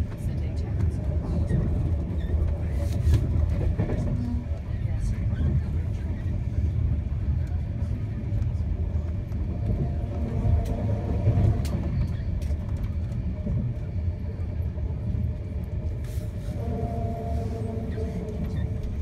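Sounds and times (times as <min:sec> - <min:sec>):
train carriage rumbling: 0:00.0 - 0:19.0.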